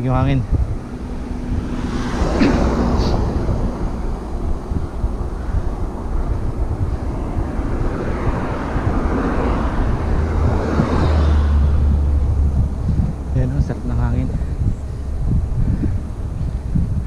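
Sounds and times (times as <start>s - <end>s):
cars passing: 0.0s - 17.0s
wind rumbling on microphone: 0.0s - 17.0s.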